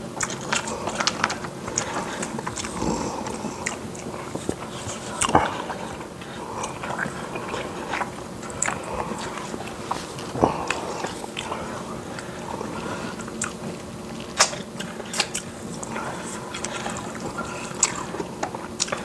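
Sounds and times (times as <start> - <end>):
people chewing and lip smacking: 0.0 - 19.0.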